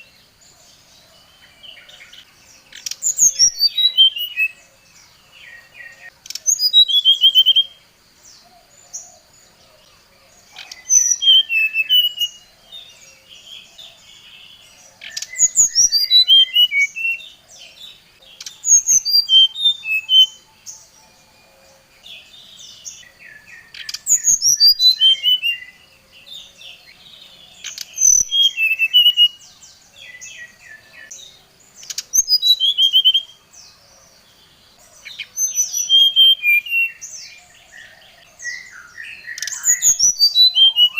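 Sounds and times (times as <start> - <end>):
bird singing whistled notes: 0.0 - 9.6, 10.3 - 40.9.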